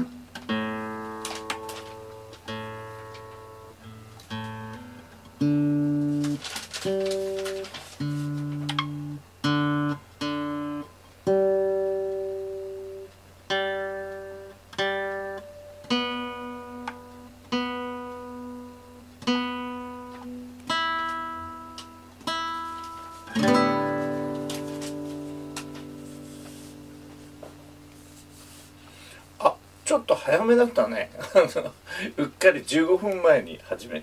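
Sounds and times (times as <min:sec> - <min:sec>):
acoustic guitar strummed chords: 0:00.0 - 0:30.8.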